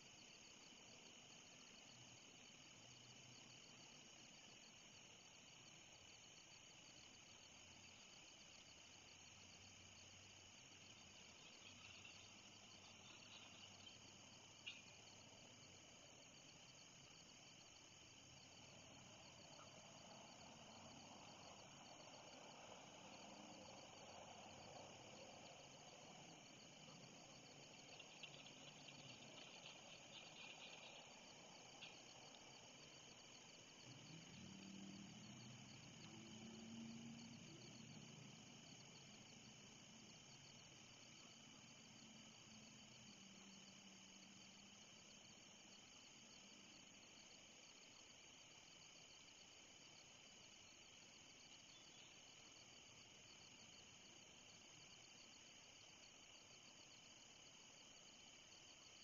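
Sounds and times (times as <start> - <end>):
crickets and night insects chorus: 0.0 - 59.0.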